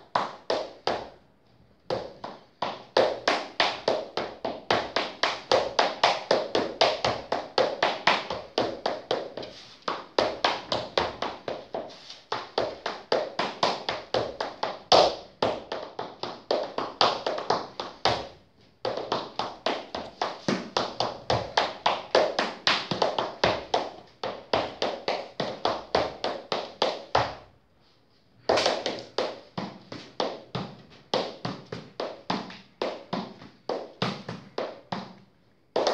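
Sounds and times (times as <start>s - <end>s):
shoes tapping on laminate floor: 1.8s - 27.5s, 28.4s - 35.9s.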